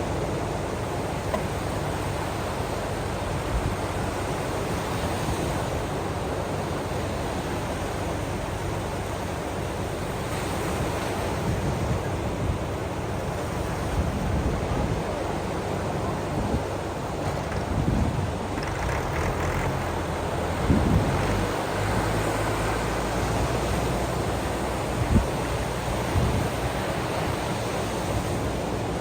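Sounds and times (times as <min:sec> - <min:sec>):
ocean waves: 0:00.0 - 0:29.0
wind: 0:00.0 - 0:29.0.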